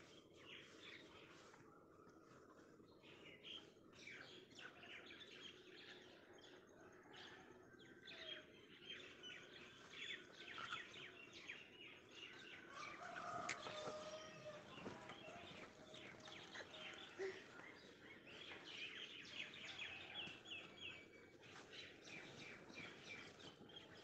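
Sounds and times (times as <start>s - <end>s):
small birds chirping: 0.0s - 7.1s, 8.1s - 24.0s.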